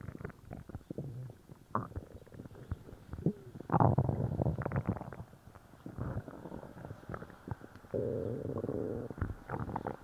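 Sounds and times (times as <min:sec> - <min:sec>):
stomach growl: 0:00.0 - 0:10.0
stomach gurgling: 0:00.0 - 0:10.0.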